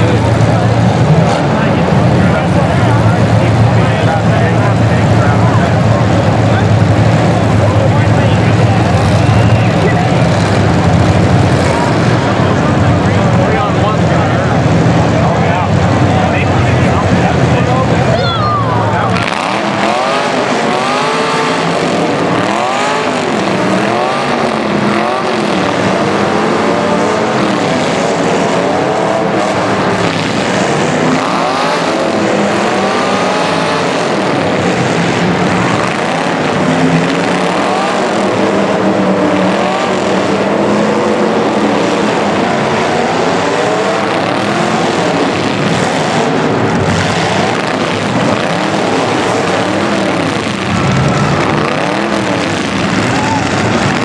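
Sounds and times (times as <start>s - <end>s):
racing engines revving: 0.0s - 54.0s.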